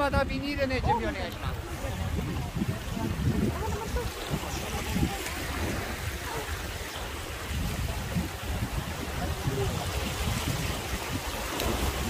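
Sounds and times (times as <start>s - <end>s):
river rapids rushing: 0.0s - 12.0s.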